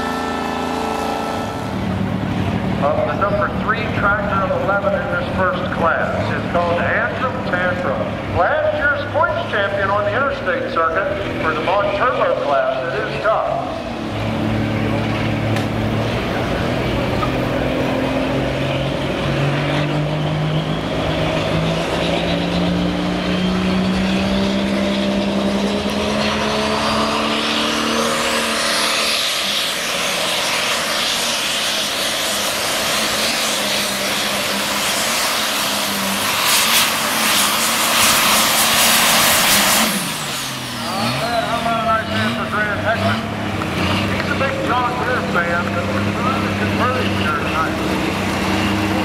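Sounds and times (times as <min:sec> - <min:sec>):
diesel tractor engine revving: 0:00.0 - 0:49.0
high turbo whine: 0:00.0 - 0:49.0.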